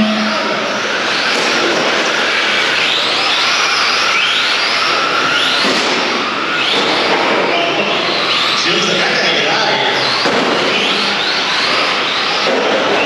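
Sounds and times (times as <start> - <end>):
rc truck electric motors whining: 0.0 - 9.0, 9.9 - 13.0.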